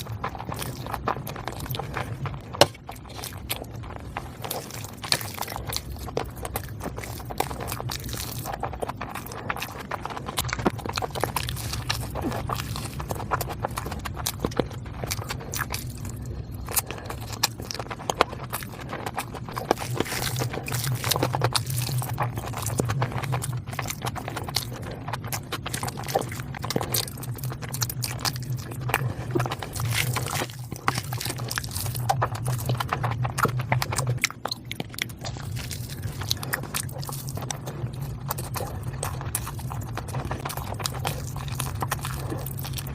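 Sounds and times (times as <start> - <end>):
person chewing food: 0.0 - 42.9
steady low hum: 0.0 - 42.9.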